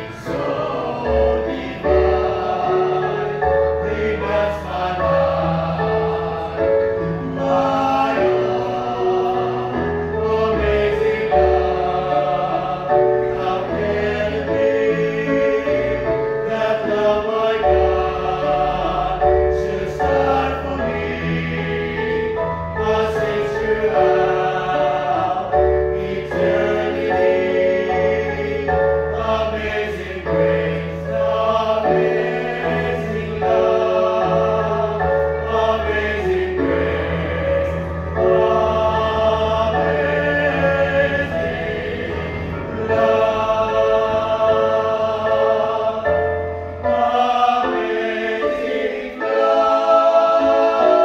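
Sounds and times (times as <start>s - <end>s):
male vocal group singing hymn: 0.0s - 51.0s.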